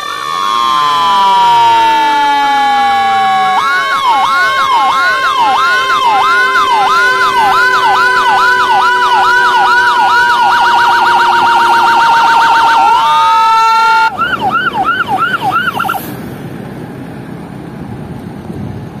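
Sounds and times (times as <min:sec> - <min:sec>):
siren wailing and yelping: 0:00.0 - 0:16.1
faint road noise: 0:00.0 - 0:19.0.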